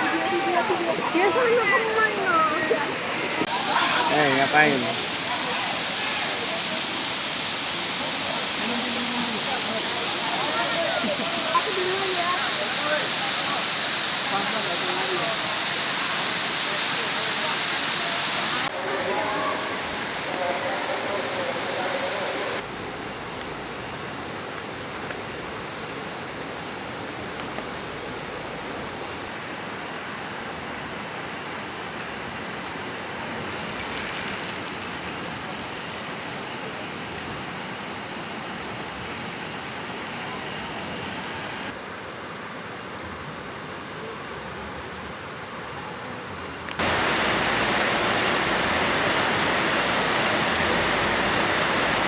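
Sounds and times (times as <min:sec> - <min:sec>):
waterfall roaring: 0:00.0 - 0:44.3, 0:46.2 - 0:52.0.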